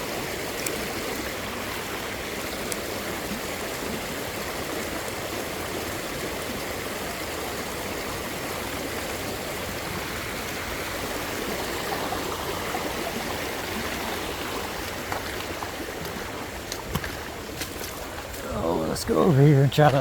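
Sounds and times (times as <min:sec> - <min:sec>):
creek water flowing over rocks: 0:00.0 - 0:20.0.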